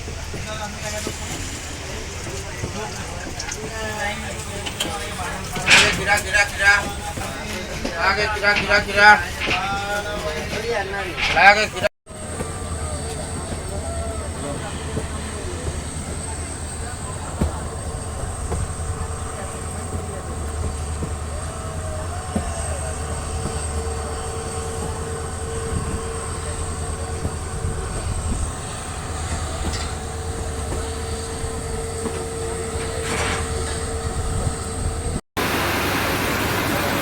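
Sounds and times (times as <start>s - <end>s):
high whine: 0.0s - 37.0s
steady hiss: 0.0s - 37.0s
train rumbling on track: 0.0s - 37.0s.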